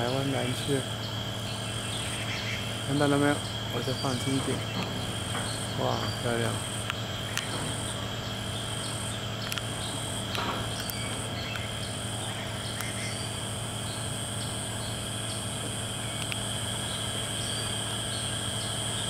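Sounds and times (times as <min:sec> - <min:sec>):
higher pulsing insect buzz: 0:00.0 - 0:19.0
low steady hum: 0:00.0 - 0:19.0
steady high insect buzzing: 0:00.0 - 0:19.0.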